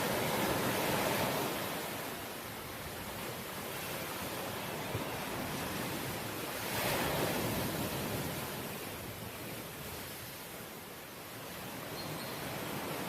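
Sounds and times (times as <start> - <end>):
ocean waves breaking: 0.0 - 10.6
steady rush of surf: 0.0 - 13.0.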